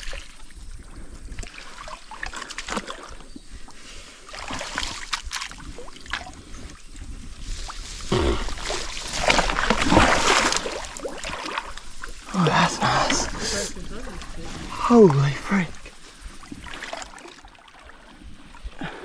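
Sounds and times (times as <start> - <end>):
creek water splashing: 0.0 - 19.0.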